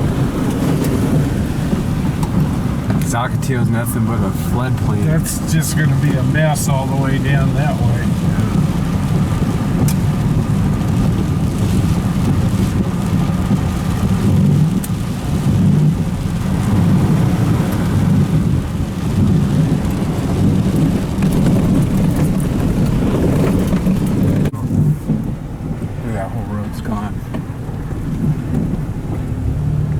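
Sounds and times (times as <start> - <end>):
heavy rain: 0.0 - 29.9
vehicle engine and road noise: 0.0 - 29.9.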